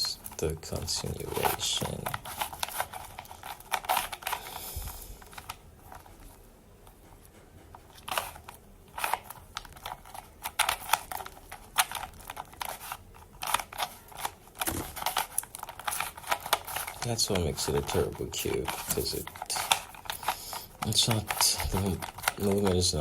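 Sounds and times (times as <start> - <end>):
puzzle cube clicking while turned: 0.2 - 7.0, 7.7 - 23.0.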